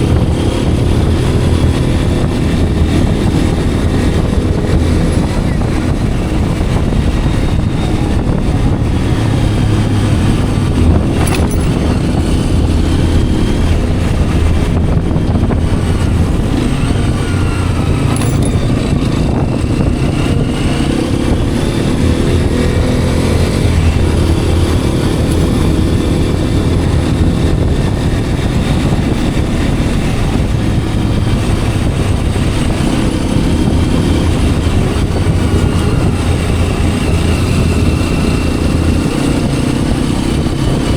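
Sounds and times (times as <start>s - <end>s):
motorcycle engine running: 0.0s - 40.9s
road noise: 0.0s - 40.9s
wind noise: 0.0s - 40.9s.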